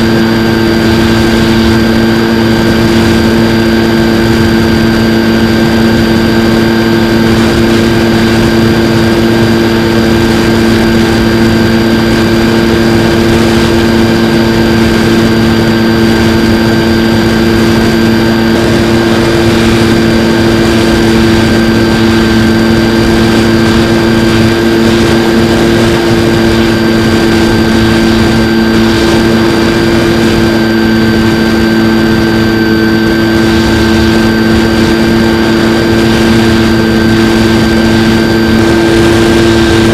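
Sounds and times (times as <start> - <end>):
electric motor and propeller whine: 0.0 - 39.9
rush of air noise: 0.0 - 39.9.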